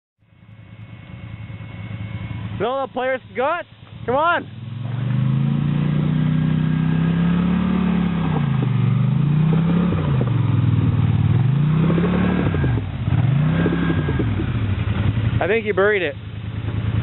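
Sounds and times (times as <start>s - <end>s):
atv engine revving: 0.4s - 17.0s.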